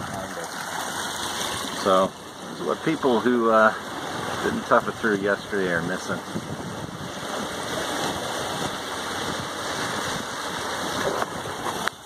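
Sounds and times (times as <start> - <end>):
water rushing along boat hull: 0.0 - 12.0
wind buffeting microphone: 1.2 - 12.0.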